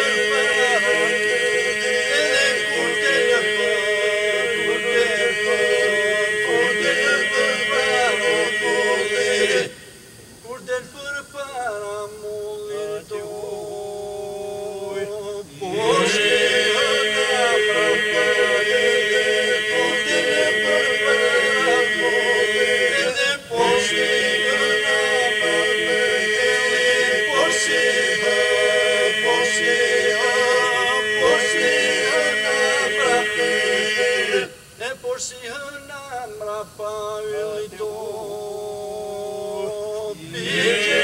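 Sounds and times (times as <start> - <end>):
men's group singing drone: 0.0 - 41.0.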